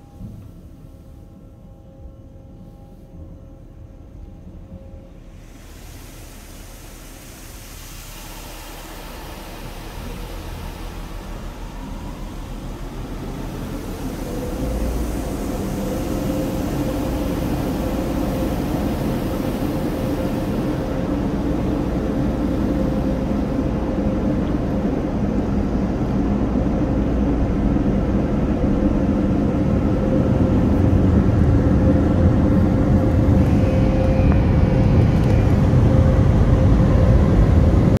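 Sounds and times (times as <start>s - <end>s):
blower dryers rushing air: 0.0s - 38.0s.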